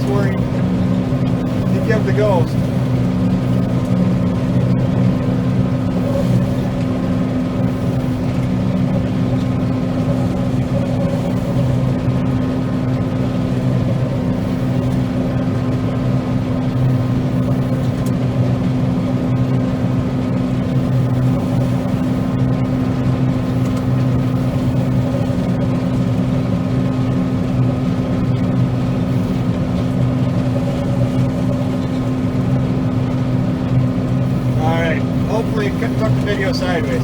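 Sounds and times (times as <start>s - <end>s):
combine harvester engine drone: 0.0s - 37.0s.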